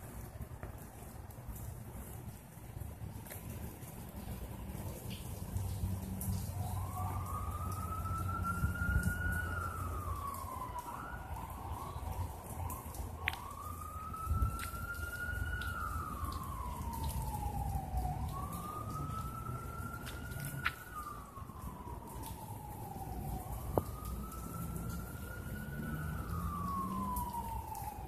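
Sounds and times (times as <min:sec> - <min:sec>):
emergency siren wailing: 0:03.2 - 0:28.0.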